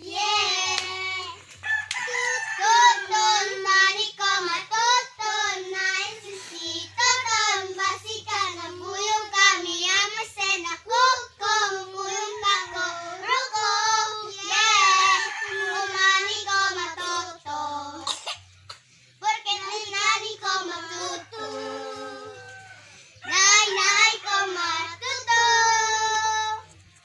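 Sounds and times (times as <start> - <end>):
children singing together: 0.0 - 1.6, 2.2 - 26.8.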